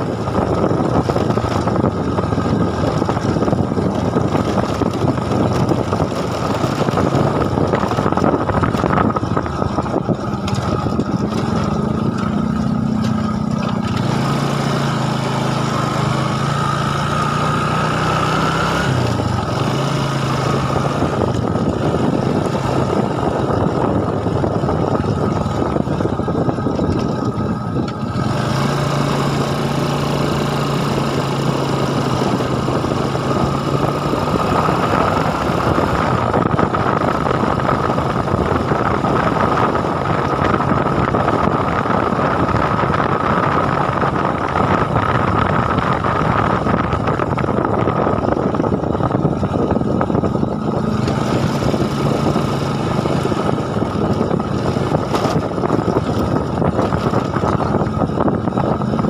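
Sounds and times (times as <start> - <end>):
broad rushing noise: 0.0 - 59.0
engine humming: 0.0 - 59.0.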